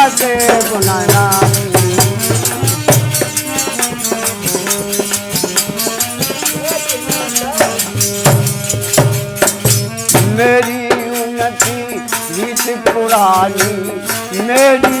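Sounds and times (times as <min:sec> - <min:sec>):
drum steady beat: 0:00.0 - 0:15.0
rattling percussion: 0:00.0 - 0:15.0.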